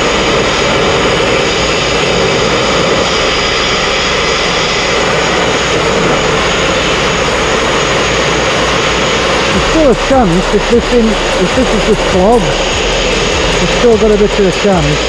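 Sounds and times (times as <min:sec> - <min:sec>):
sandblasting rush of air and grit: 0:00.0 - 0:15.0.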